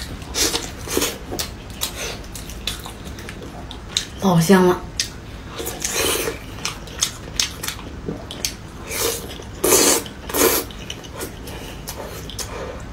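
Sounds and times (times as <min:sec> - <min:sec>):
wet chewing and smacking: 0:00.0 - 0:04.2, 0:04.8 - 0:12.9.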